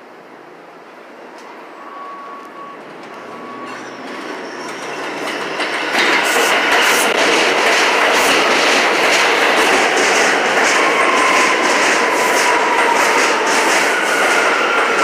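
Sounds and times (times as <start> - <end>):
faint train whine: 0.0 - 15.0
train wheels clattering on rails: 1.4 - 15.0.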